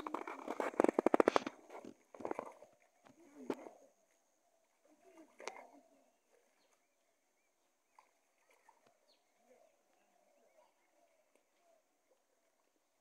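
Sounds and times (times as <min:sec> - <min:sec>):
faint chirps and ticks: 0:00.0 - 0:13.0.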